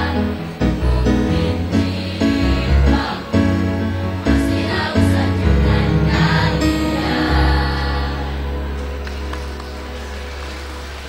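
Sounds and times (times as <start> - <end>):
children's choir singing: 0.0 - 9.0
musical accompaniment: 0.0 - 11.0.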